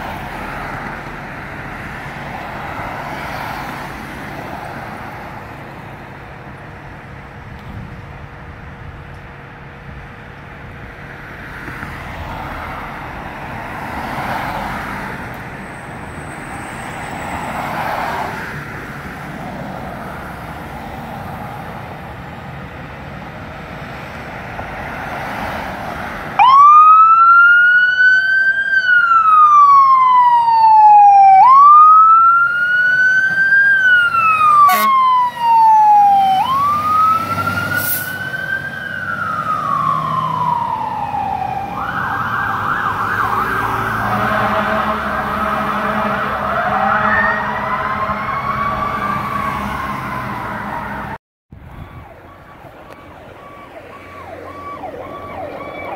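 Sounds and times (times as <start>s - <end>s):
fire truck siren: 0.0s - 7.1s, 9.3s - 55.9s
street traffic noise: 0.0s - 55.9s.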